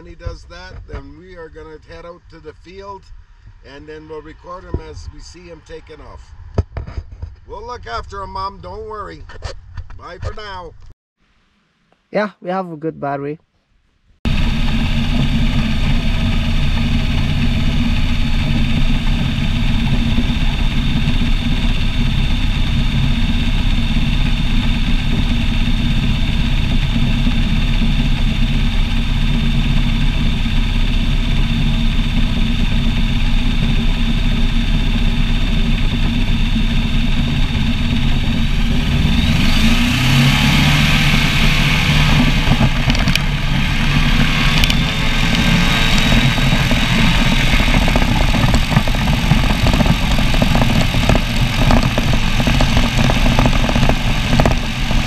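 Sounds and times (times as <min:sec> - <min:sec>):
engine and propeller running: 0:00.0 - 0:09.1, 0:14.2 - 0:55.0.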